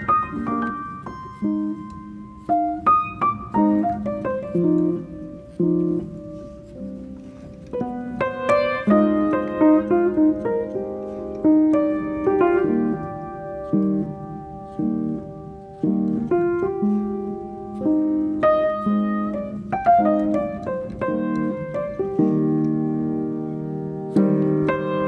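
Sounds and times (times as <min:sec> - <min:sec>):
background piano music: 0:00.0 - 0:25.0.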